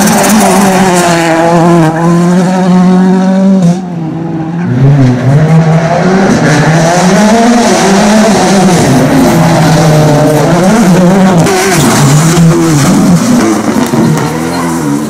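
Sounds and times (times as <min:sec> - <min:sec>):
rally car engines revving: 0:00.0 - 0:15.0.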